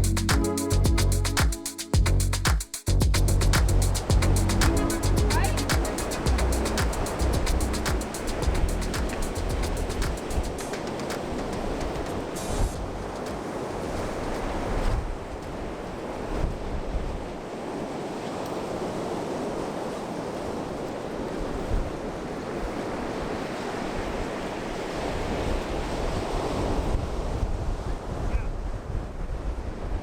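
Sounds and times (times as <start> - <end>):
wind buffeting microphone: 2.0 - 30.0
surf washing onto beach: 3.5 - 27.6.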